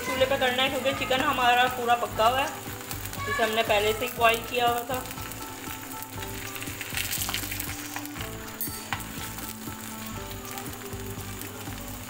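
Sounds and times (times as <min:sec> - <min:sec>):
chicken deep-frying in hot oil: 0:00.0 - 0:12.0.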